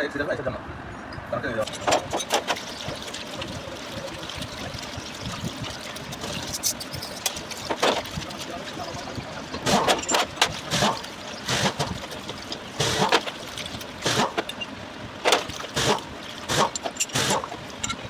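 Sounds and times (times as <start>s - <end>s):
liquid splashing and sloshing: 1.6s - 18.0s.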